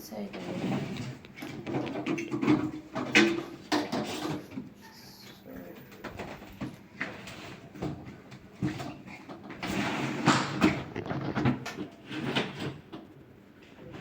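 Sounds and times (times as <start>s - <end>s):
washing machine churning: 0.0s - 14.0s.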